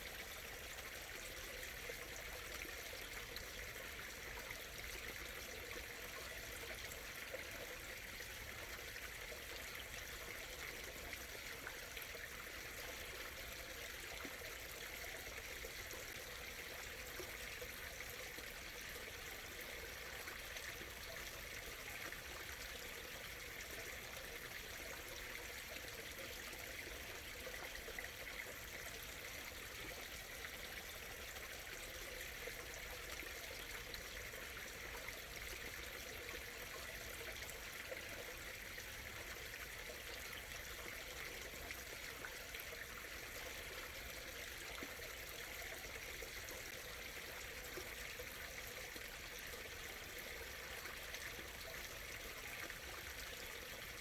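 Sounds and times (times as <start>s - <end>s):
small stream trickling: 0.0s - 54.0s.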